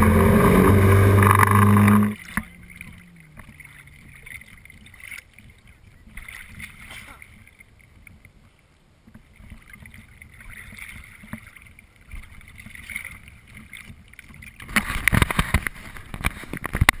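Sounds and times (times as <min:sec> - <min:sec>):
wind and water hiss: 0:00.0 - 0:17.0.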